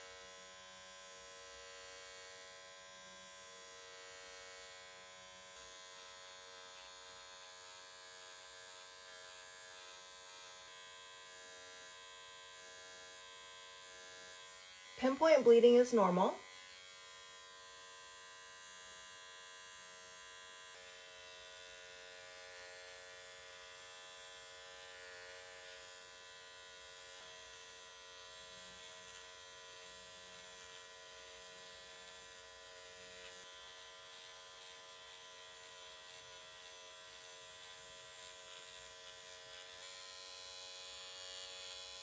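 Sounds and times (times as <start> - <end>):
faint motor buzz: 0.0 - 42.0.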